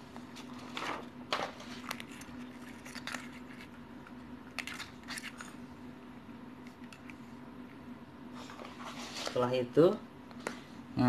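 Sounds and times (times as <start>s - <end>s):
faint steady low hum: 0.0s - 11.0s.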